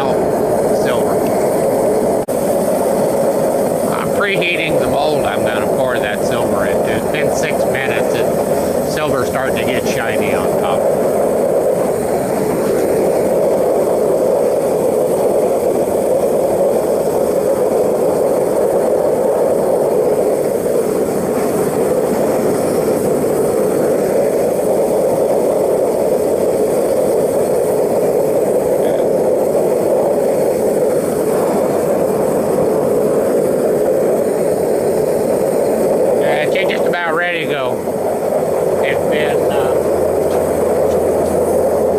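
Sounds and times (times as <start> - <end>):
propane burner roaring: 0.0 - 41.9.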